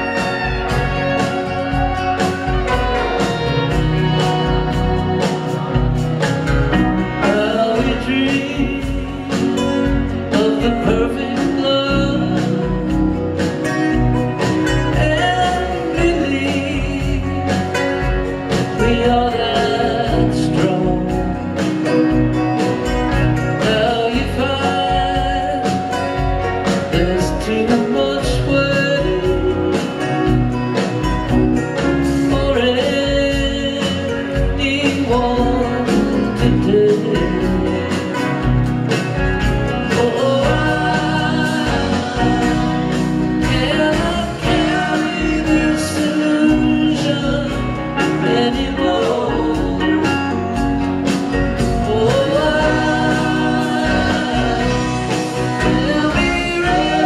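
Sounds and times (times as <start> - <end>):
string band playing a song: 0.0 - 57.0.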